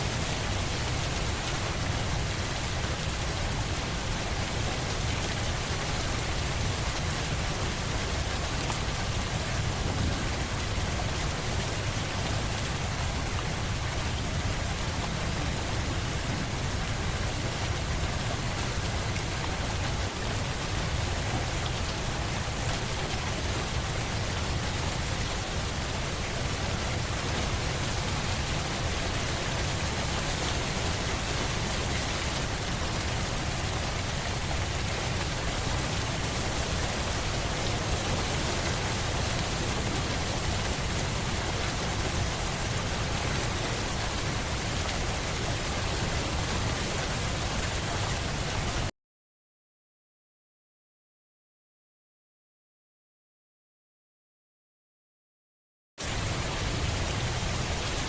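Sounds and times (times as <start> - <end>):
steady rain falling: 0.0 - 48.9, 56.0 - 58.0.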